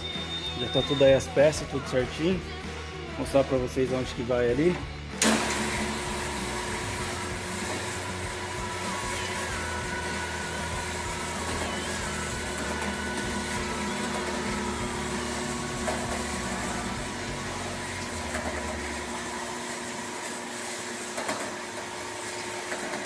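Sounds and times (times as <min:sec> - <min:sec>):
machine hum with low drone: 0:04.5 - 0:23.0.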